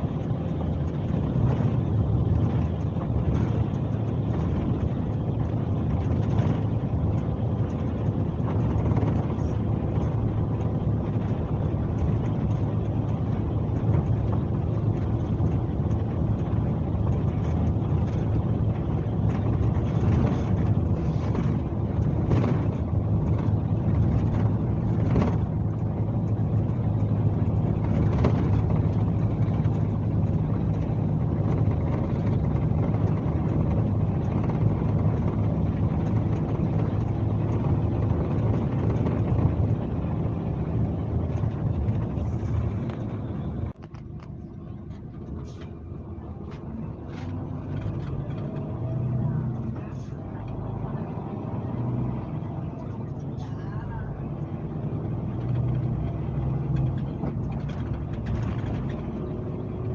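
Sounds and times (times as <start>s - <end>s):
diesel engine drone: 0.0s - 59.9s.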